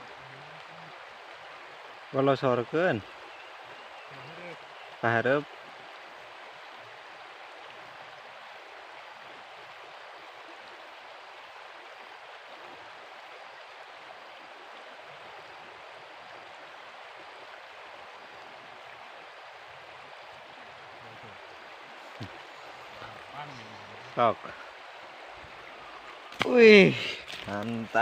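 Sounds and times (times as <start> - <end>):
flowing stream water rushing: 0.0 - 28.0.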